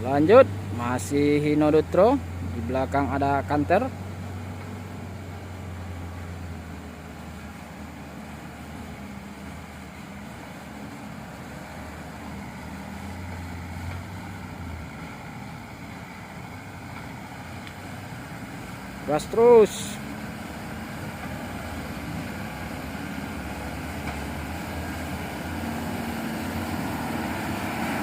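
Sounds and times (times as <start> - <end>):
diesel truck engine passing: 0.0 - 28.0.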